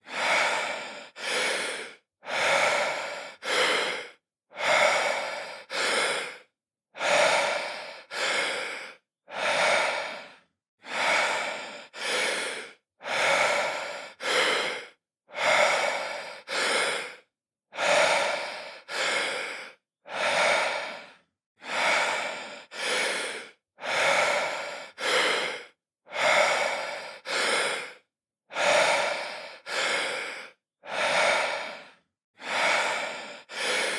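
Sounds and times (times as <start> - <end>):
man breathing deeply: 0.0 - 33.9.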